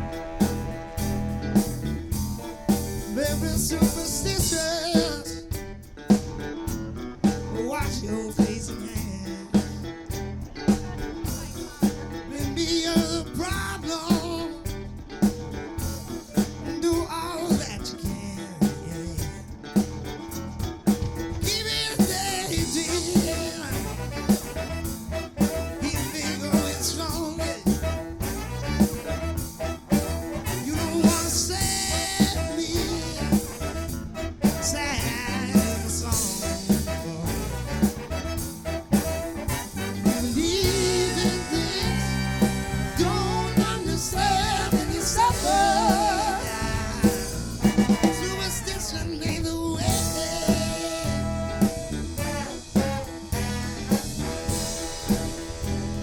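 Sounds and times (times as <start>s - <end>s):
drum kit beat: 0.0s - 56.0s
soul band playing: 0.0s - 56.0s.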